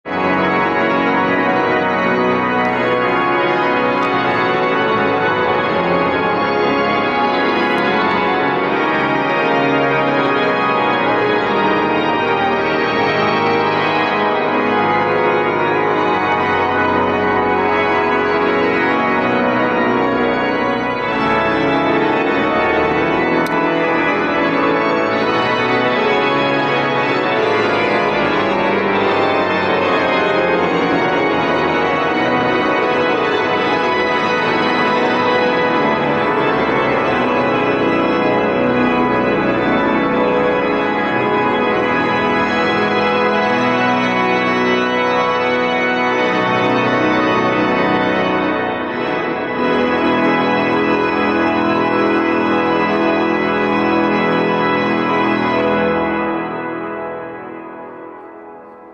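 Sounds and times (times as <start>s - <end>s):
pipe organ playing chords: 0.0s - 58.9s.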